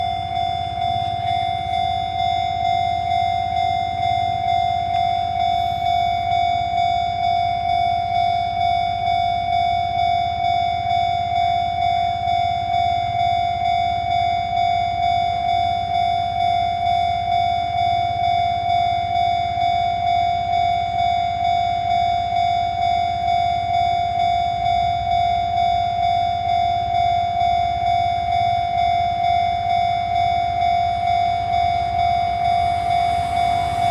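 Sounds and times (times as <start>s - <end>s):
level-crossing warning bell: 0.0s - 33.9s.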